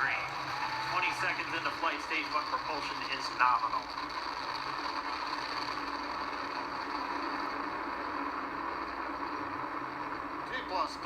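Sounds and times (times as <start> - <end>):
rocket engines crackling: 0.0 - 11.0.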